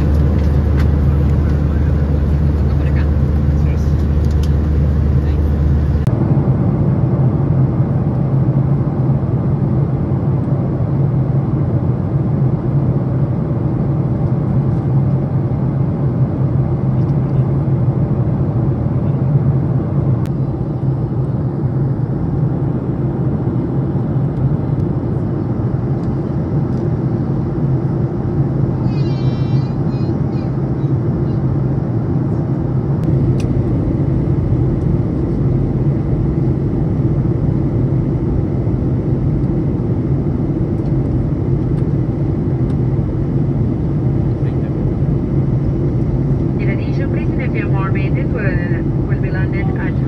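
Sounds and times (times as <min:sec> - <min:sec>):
airliner cabin hum and hiss: 0:00.0 - 0:50.0.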